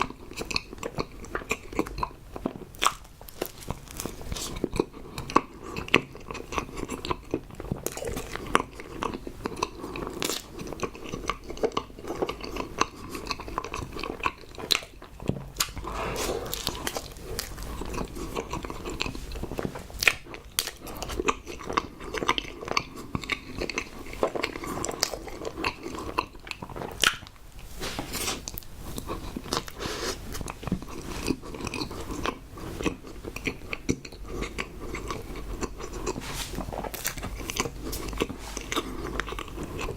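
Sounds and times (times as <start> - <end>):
person chewing bread: 0.0 - 39.9.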